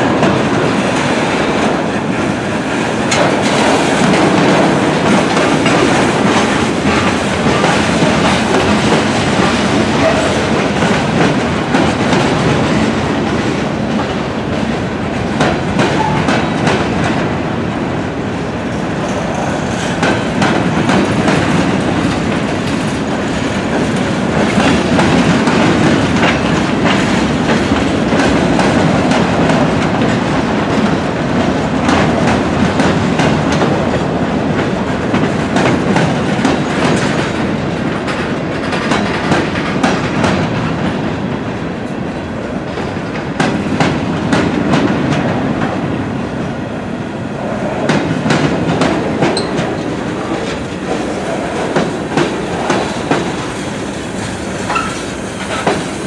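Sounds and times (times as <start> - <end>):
wheels clacking over rail joints: 0.0 - 17.3, 18.7 - 45.9, 47.4 - 56.0
steel wheels rumbling on rail: 0.0 - 56.0.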